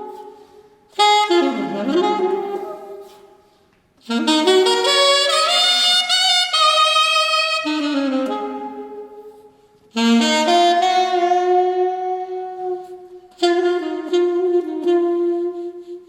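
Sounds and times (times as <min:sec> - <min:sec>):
alto saxophone jazz ballad: 0:00.0 - 0:16.0.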